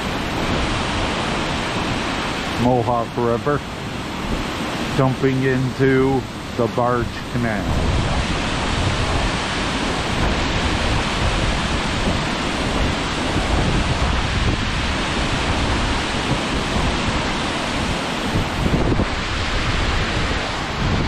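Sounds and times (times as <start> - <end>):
river water rushing over spillway: 0.0 - 21.0
wind buffeting microphone: 0.0 - 21.0.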